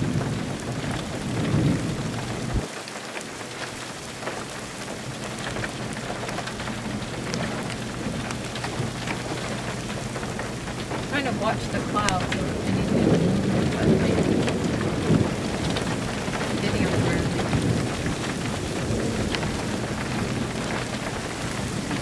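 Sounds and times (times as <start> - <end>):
raindrops ticking: 0.0 - 22.0
steady rain: 0.0 - 22.0
thunder rumbling: 0.0 - 22.0.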